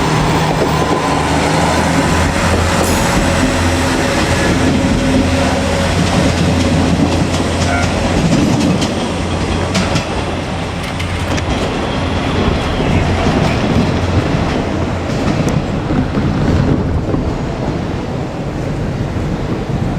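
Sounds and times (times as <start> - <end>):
train running noise: 0.0 - 19.9
train wheels clicking over rail joints: 0.0 - 19.9.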